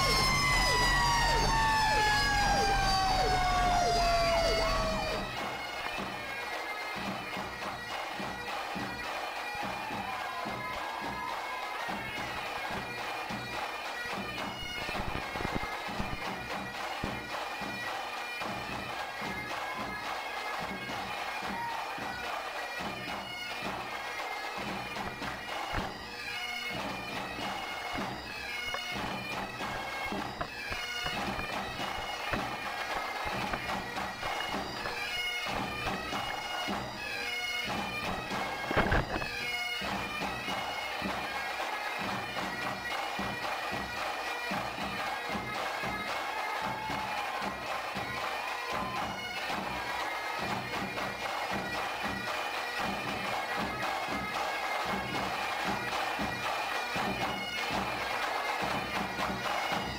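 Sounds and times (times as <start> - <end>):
bagpipes playing over drone: 0.0 - 59.9.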